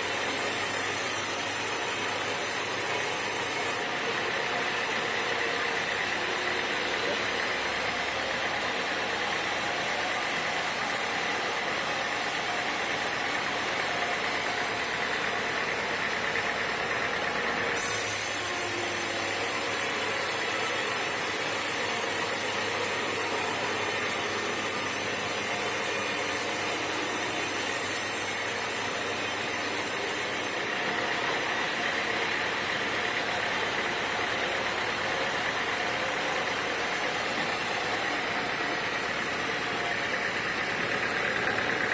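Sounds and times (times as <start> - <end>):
sawmill machinery running: 0.0 - 41.9.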